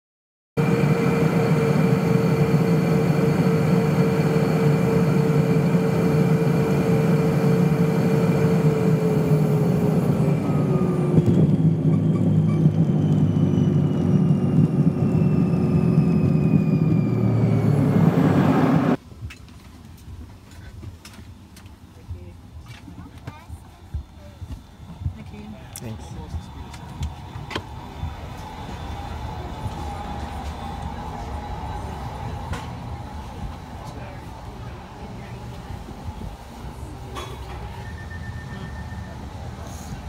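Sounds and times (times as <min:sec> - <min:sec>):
jet engine roar and whine: 0:00.6 - 0:19.0, 0:22.8 - 0:40.0.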